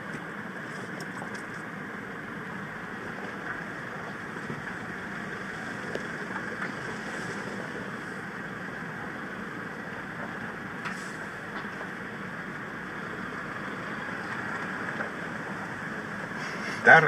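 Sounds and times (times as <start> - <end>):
car interior rumble and hiss: 0.0 - 17.0.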